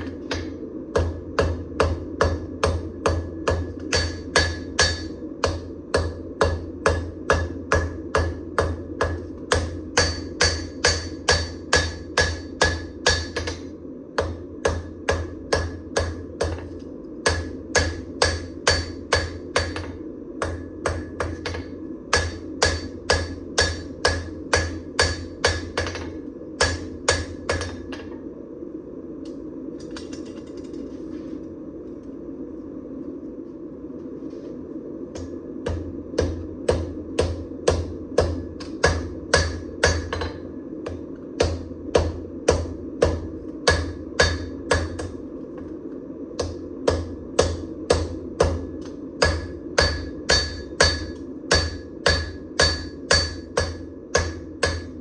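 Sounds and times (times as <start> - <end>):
hammer striking steel on anvil: 0.0 - 13.6, 14.2 - 28.2, 35.2 - 45.2, 46.4 - 55.0
steady hum: 0.0 - 55.0.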